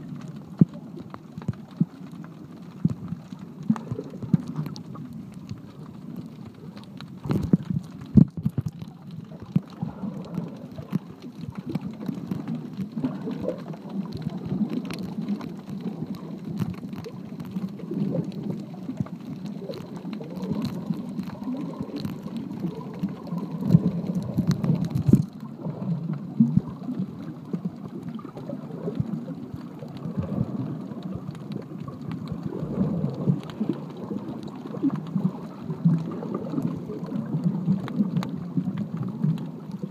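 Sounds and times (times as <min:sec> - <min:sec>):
small underwater clicks: 0:00.0 - 0:39.9
underwater churning and bubbling: 0:00.0 - 0:39.9.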